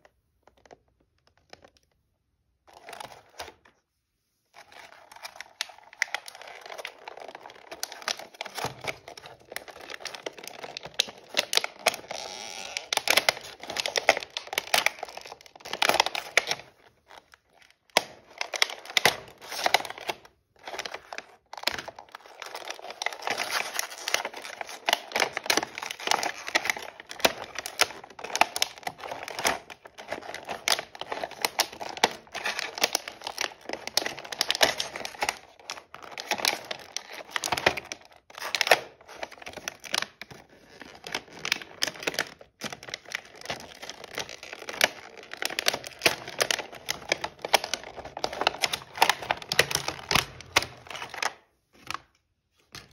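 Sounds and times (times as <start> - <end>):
plastic packaging crinkling: 2.7 - 3.8, 4.5 - 52.9.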